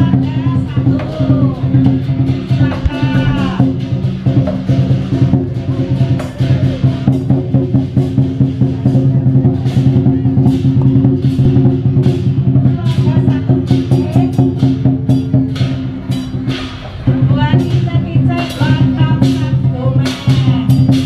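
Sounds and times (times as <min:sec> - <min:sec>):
cymbals crashing: 0:00.0 - 0:21.0
drum beating: 0:00.0 - 0:21.0.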